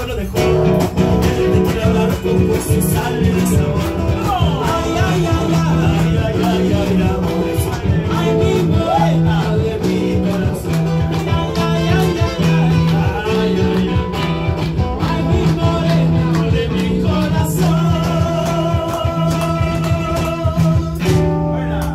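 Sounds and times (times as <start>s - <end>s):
acoustic guitar strumming: 0.0s - 21.9s
electric guitar strumming: 0.0s - 21.9s
two men singing: 0.0s - 21.9s.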